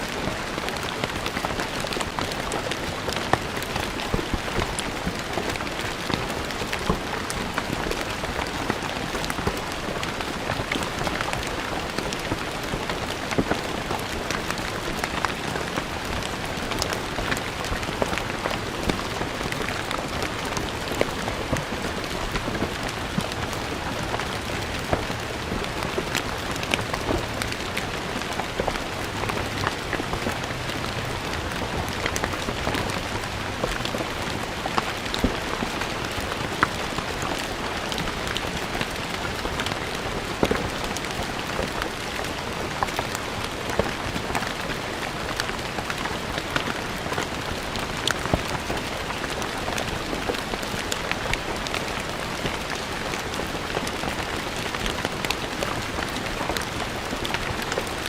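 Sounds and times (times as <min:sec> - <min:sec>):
rain falling on stone: 0:00.0 - 0:58.0.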